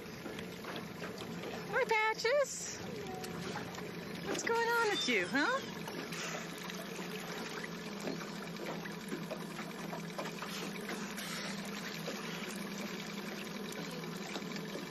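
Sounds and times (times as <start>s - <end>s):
steady low hum: 0.0s - 14.9s
water lapping against boat: 0.0s - 14.9s.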